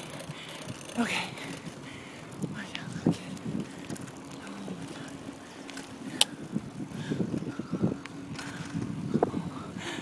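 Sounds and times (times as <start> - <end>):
bicycle tyres and frame rattling: 0.0 - 10.0.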